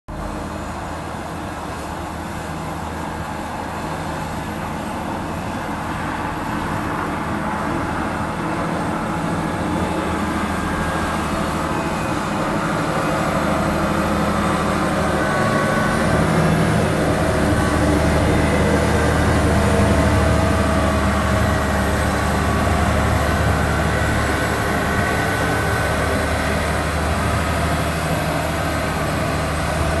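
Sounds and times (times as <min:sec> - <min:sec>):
diesel engine running: 0:00.1 - 0:30.0.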